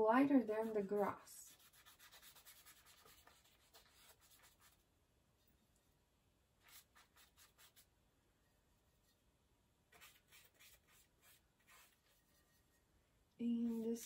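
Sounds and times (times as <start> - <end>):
paintbrush strokes on paper: 0.4 - 6.0, 6.6 - 9.3, 9.9 - 12.9, 13.5 - 14.0.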